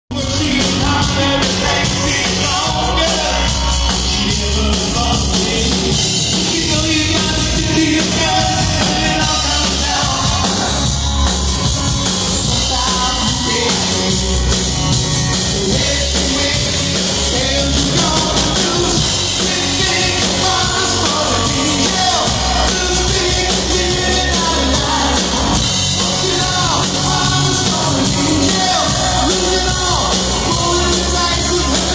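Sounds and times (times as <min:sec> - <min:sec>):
acoustic guitars strumming: 0:00.1 - 0:31.9
person singing lead vocal: 0:00.1 - 0:31.9.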